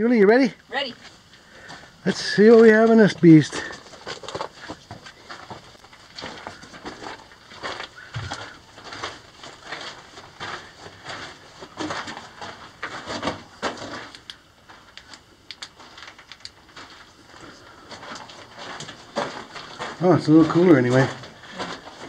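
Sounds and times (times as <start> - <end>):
footsteps crunching on gravel: 1.0 - 14.9, 16.6 - 22.0.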